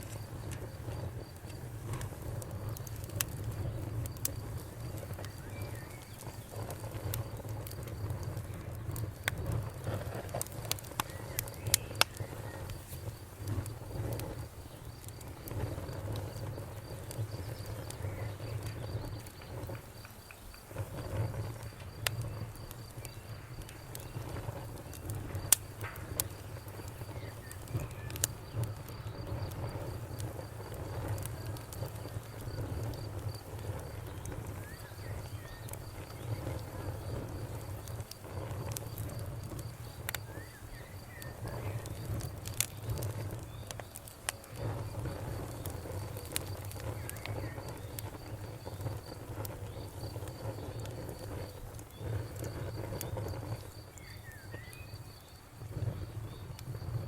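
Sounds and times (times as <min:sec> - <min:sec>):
rumble of flames: 0:00.0 - 0:57.0
wood fire crackling: 0:00.0 - 0:57.0.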